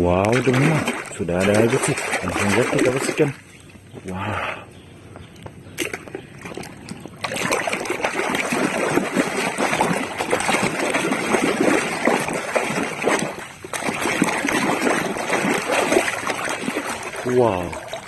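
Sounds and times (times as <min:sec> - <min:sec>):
water splashing in a tub: 0:00.0 - 0:03.7, 0:05.8 - 0:18.0.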